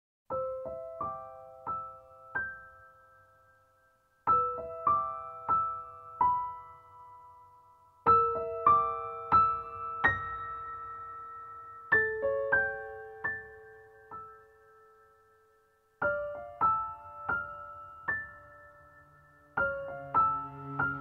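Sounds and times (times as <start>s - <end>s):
soft piano melody: 0.3s - 21.0s.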